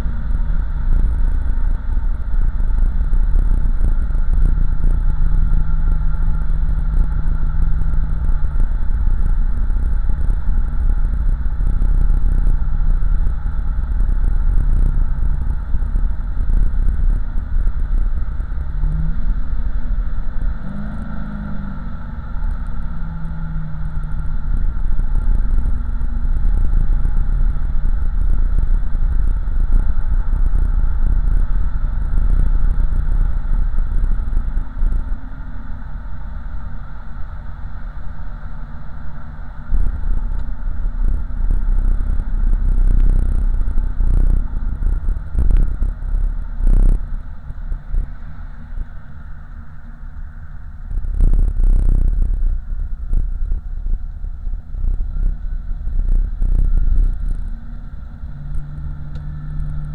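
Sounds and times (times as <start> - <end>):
car engine low rumble: 0.0 - 59.9
road noise: 0.0 - 59.9.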